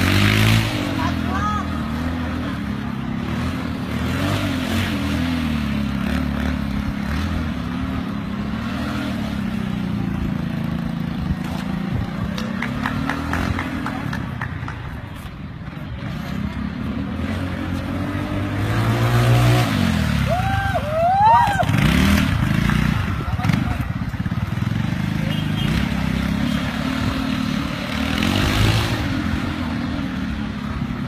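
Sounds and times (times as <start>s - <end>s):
motorbike engines revving: 0.0s - 31.0s.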